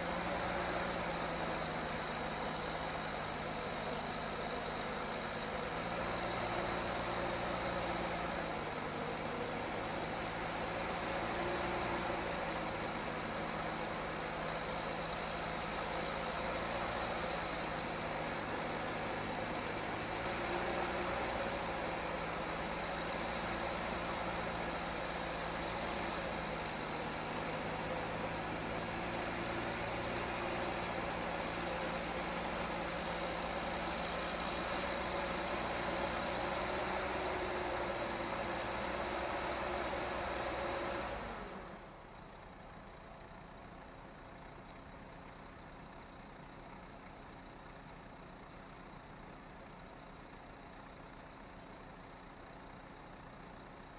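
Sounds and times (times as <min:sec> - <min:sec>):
heavy vehicle engine running: 0:00.0 - 0:53.9.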